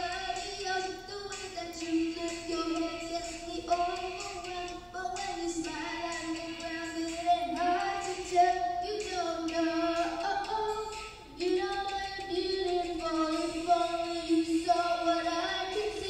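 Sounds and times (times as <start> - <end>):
child singing into microphone: 0.0 - 16.0.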